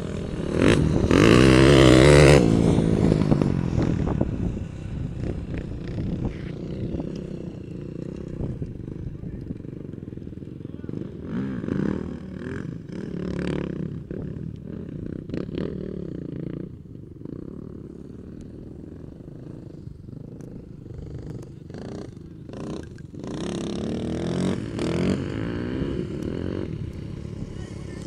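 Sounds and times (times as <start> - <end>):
off-road engine revving: 0.0 - 28.0.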